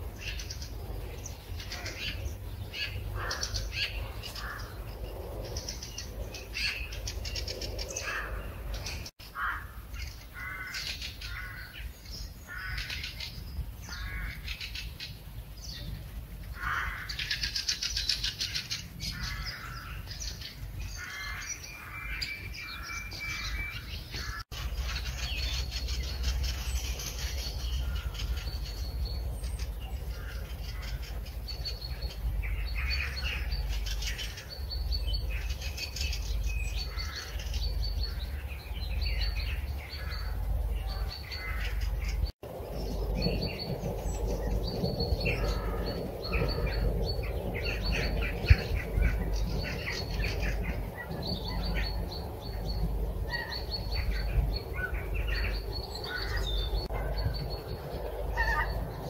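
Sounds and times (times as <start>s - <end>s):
steady low rumble: 0.0s - 9.1s, 18.0s - 59.0s
songbirds singing and calling: 0.0s - 59.0s.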